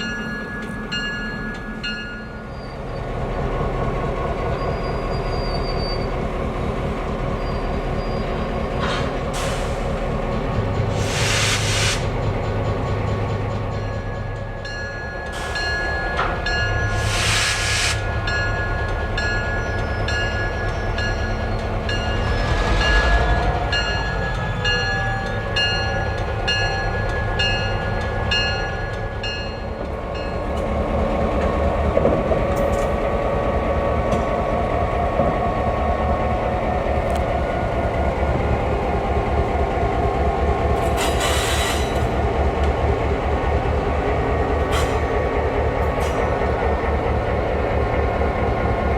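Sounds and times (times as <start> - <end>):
diesel train engine throb: 0.0 - 48.9.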